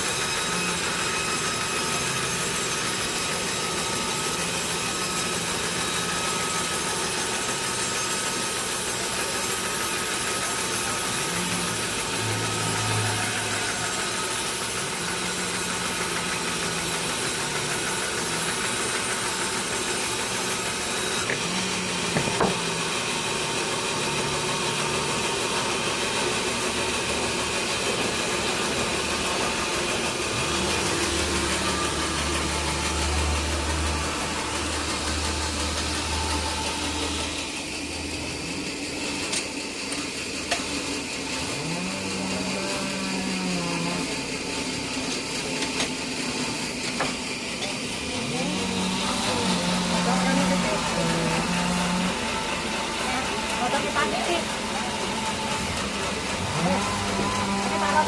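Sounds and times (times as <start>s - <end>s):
sawmill machinery engine running: 0.0s - 58.0s.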